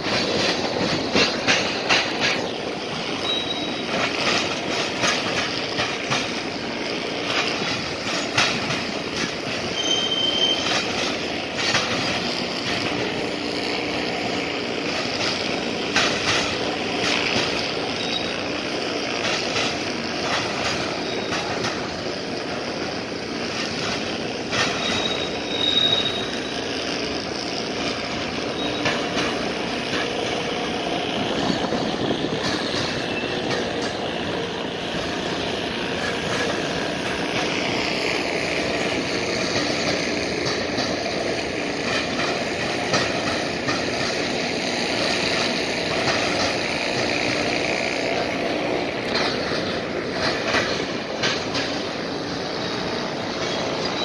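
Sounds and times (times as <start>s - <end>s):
high wheel squeal: 0.0s - 54.0s
train wheels clattering on rail: 0.0s - 54.0s
wheels banging over crossing: 0.0s - 54.0s.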